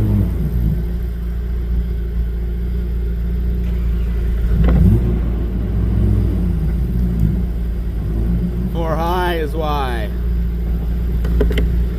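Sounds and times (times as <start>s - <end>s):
off-road vehicle engine rumble: 0.0s - 11.9s.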